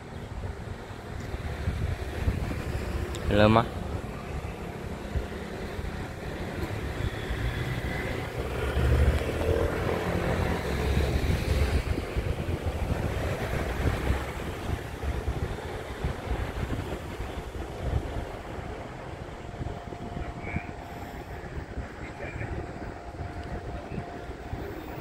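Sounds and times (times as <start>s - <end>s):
low rumble of traffic: 0.0s - 25.0s
vehicle passing: 0.8s - 25.0s.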